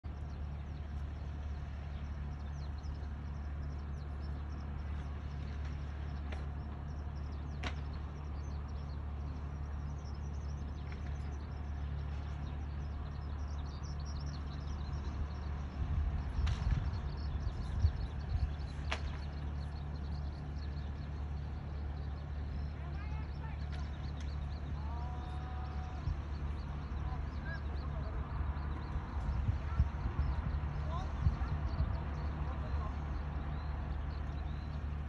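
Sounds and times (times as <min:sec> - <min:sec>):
small engine idling: 0:00.0 - 0:35.0.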